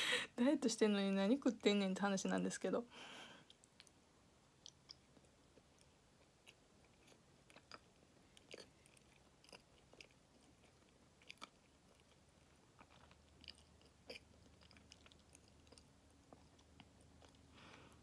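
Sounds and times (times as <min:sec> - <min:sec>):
faint close-up chewing: 0:03.4 - 0:18.0.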